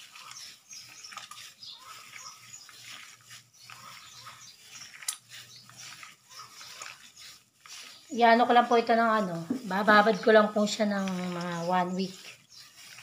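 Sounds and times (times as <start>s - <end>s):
wet squelching of meat kneaded: 0.0s - 13.0s.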